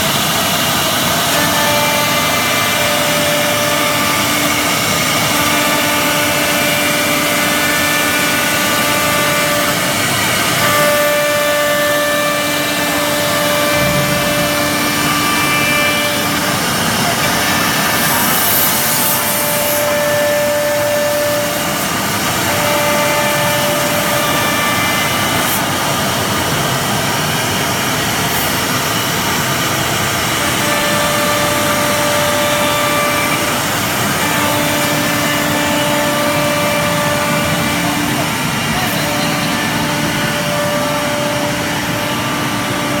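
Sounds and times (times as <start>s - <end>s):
cnc wood router cutting wood: 0.0s - 43.0s
spindle whine: 0.0s - 43.0s.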